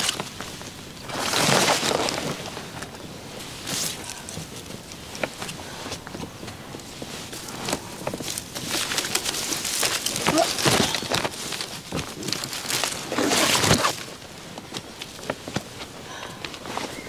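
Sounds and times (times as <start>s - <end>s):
footsteps on rocky trail: 0.0s - 17.0s
scrambling on rocks: 0.0s - 17.0s.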